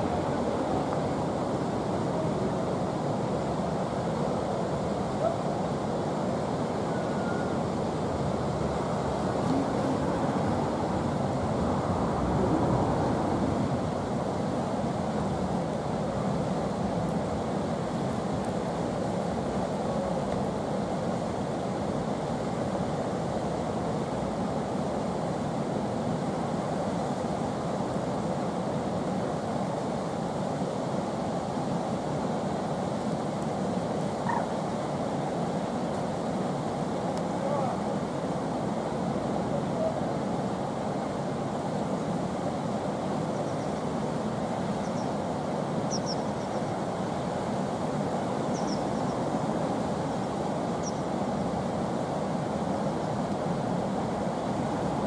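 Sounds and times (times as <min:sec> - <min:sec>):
white water roaring: 0:00.0 - 0:55.0.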